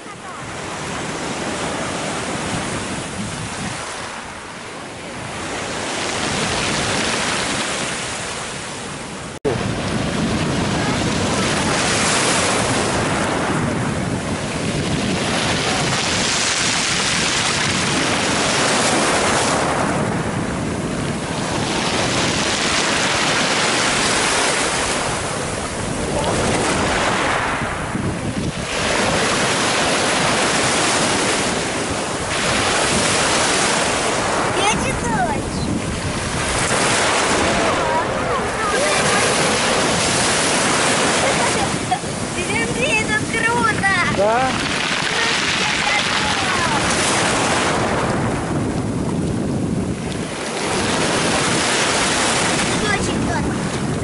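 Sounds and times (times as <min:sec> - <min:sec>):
surf washing over pebbles: 0:00.0 - 0:54.0
wind buffeting microphone: 0:00.0 - 0:54.0.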